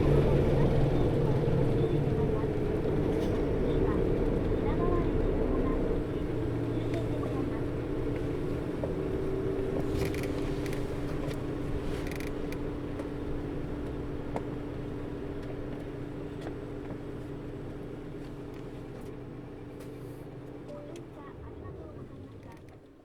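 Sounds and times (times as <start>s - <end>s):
diesel bus engine drone: 0.0s - 23.0s.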